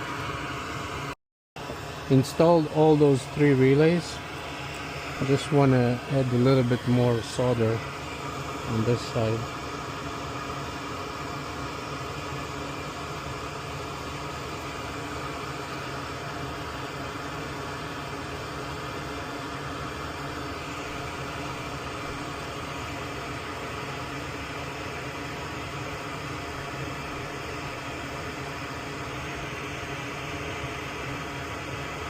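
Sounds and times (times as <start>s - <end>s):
fan hiss and hum: 0.0s - 32.0s.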